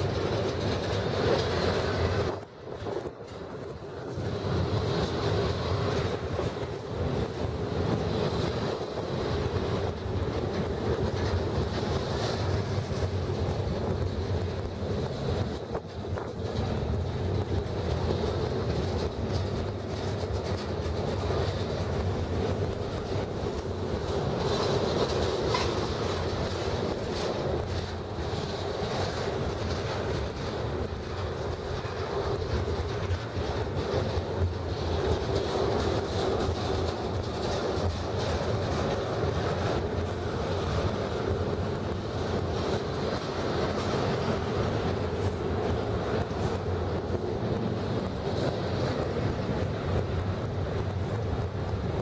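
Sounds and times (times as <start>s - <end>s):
clickety-clack over rail joints: 0.0s - 52.0s
freight train wheels rumbling: 0.0s - 52.0s.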